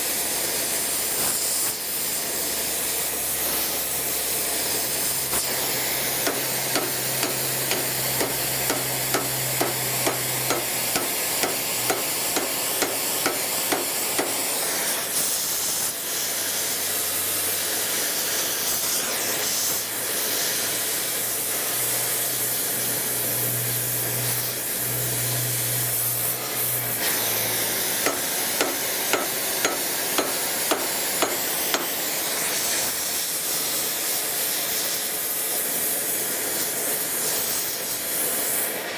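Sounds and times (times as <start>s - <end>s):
gas torch flame hissing: 0.0s - 38.9s.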